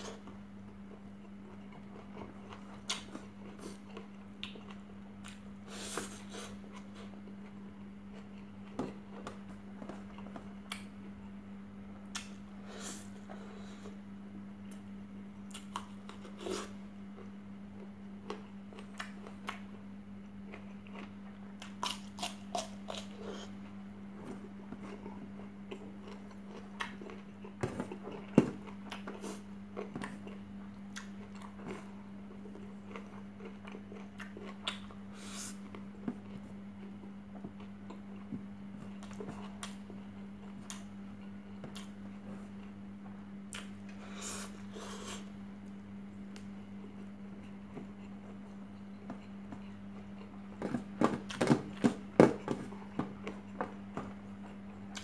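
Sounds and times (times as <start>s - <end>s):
person chewing food: 0.0s - 11.4s, 14.6s - 45.4s, 46.3s - 55.0s
steady low hum: 0.0s - 55.0s.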